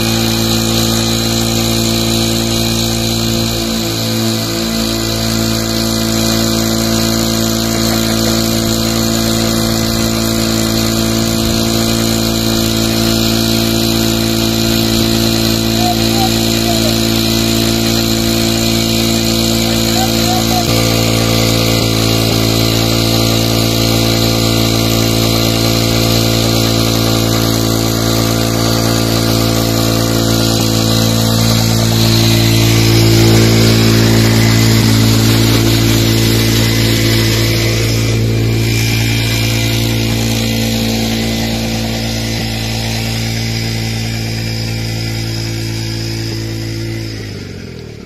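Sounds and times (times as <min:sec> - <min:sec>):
water gushing from pipe: 0:00.0 - 0:47.2
motorcycle engine running steadily: 0:00.0 - 0:48.0.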